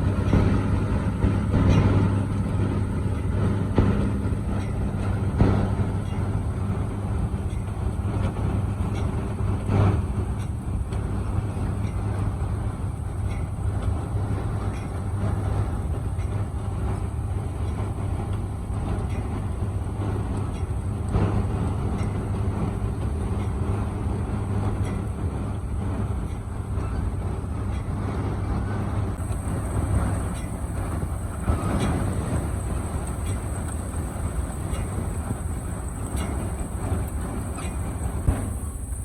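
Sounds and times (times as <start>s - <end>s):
heavy machinery humming: 0.0s - 39.0s.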